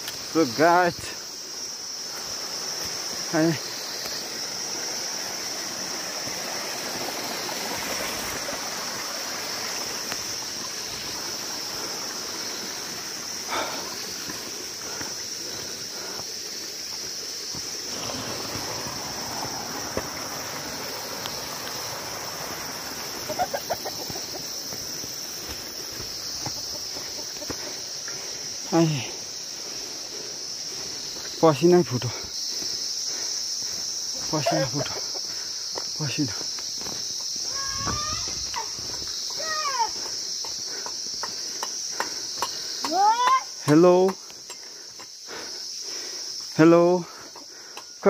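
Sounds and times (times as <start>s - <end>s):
small stream rushing: 0.0s - 44.2s
high-pitched insect chorus: 0.0s - 48.0s
footsteps on path: 1.6s - 46.5s.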